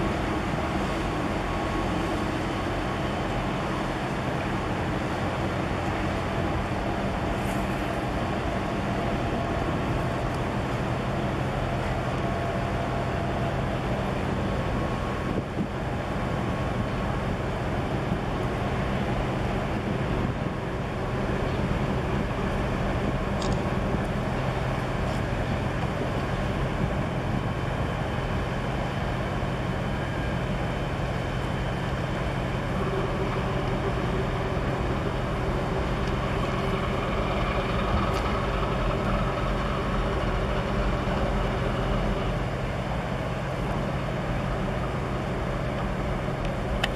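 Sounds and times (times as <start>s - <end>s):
ship engines low drone: 0.0s - 46.9s.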